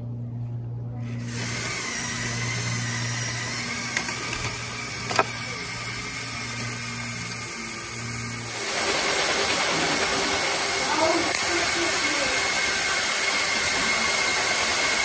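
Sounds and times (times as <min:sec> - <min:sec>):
toy motors and gears whining: 0:01.2 - 0:15.0.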